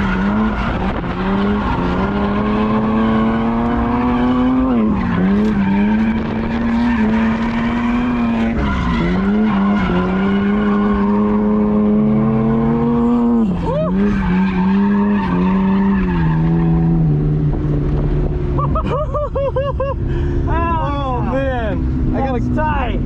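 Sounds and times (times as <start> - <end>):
tires skidding: 0.0 - 19.0
car engine at high revs: 0.0 - 23.0.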